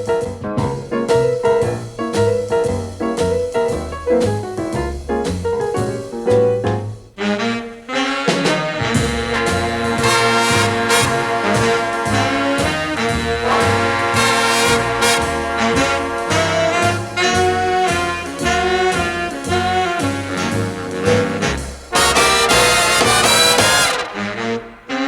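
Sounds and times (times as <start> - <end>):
walking bass line: 0.0 - 7.2, 8.8 - 24.6
swing jazz band: 0.0 - 25.0.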